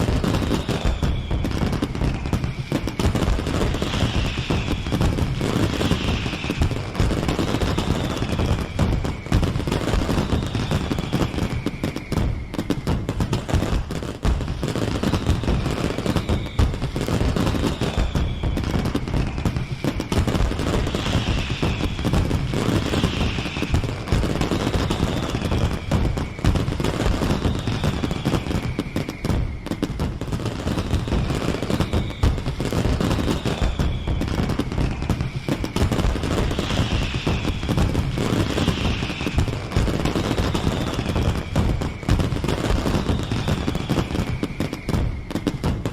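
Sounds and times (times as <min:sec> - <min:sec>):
falling firework whistles: 0:00.0 - 0:45.9
fireworks bangs and crackling: 0:00.0 - 0:45.9.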